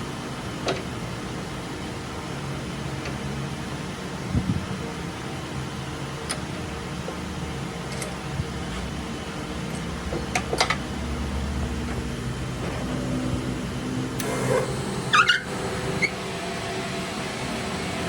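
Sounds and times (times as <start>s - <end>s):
workshop machine hum: 0.0s - 18.0s.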